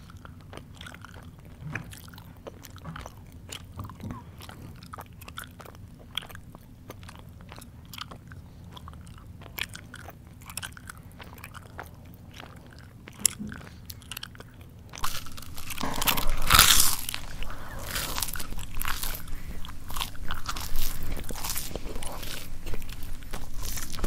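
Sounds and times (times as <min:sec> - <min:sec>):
loud crunching bite: 0:00.0 - 0:24.0
mouth chewing crunchy food: 0:00.0 - 0:24.0.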